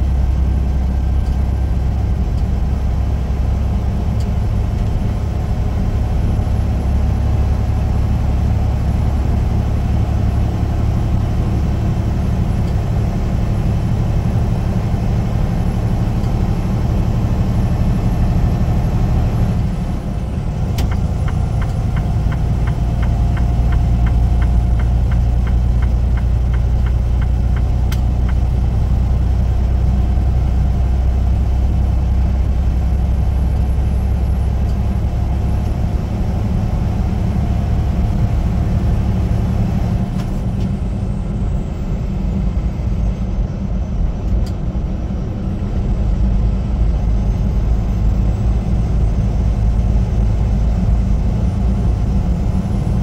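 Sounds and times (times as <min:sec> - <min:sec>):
road rumble: 0:00.0 - 0:53.0
truck diesel engine: 0:00.0 - 0:53.0.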